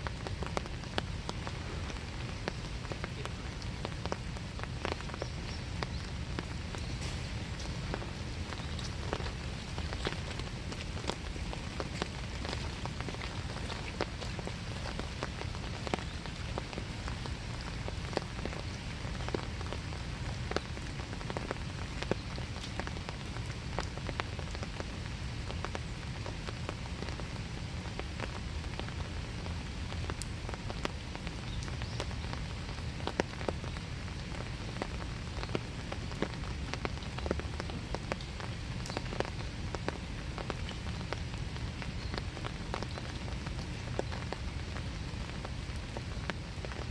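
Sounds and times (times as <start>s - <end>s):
rain falling: 0.0s - 46.9s
raindrops ticking close by: 0.0s - 46.9s.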